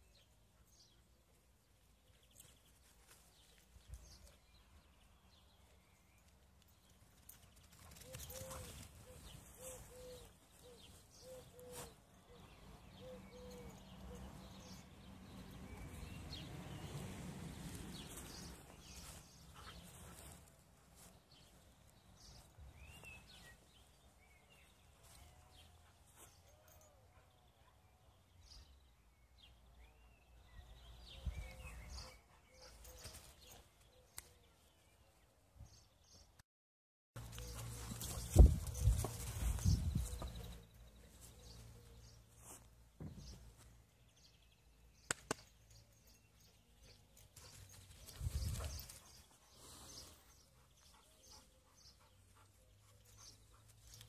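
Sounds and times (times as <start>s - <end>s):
small birds chirping: 0.0s - 36.4s, 37.2s - 54.0s.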